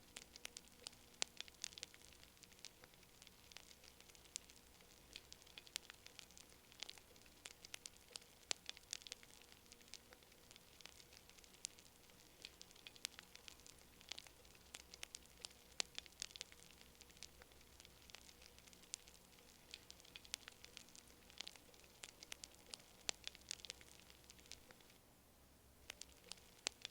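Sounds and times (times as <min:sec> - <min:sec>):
campfire crackling: 0:00.0 - 0:25.0, 0:25.8 - 0:26.9.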